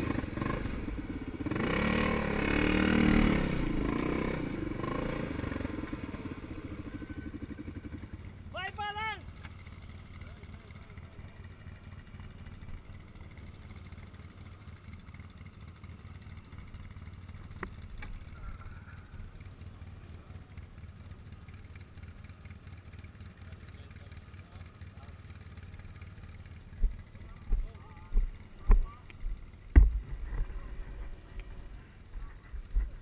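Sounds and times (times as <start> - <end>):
distant engines rumbling: 0.0 - 33.0.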